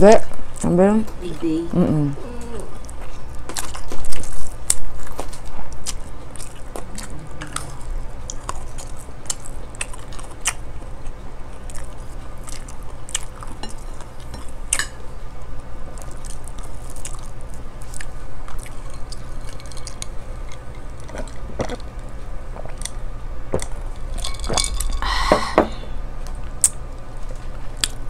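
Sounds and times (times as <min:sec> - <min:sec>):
chewing and mouth sounds: 0:02.3 - 0:25.1, 0:26.2 - 0:28.0.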